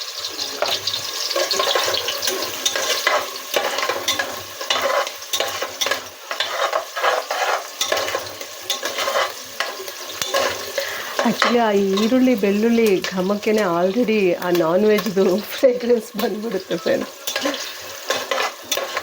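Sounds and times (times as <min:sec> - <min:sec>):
onions sizzling in oil: 0:00.0 - 0:19.0
spoon scraping pot: 0:00.6 - 0:19.0.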